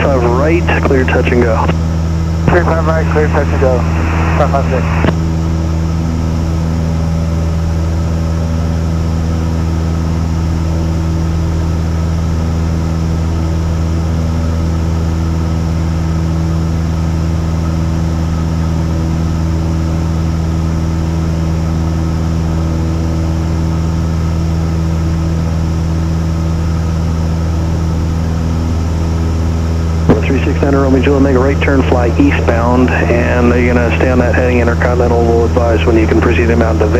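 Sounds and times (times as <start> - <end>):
propeller plane engine drone: 0.0 - 36.9.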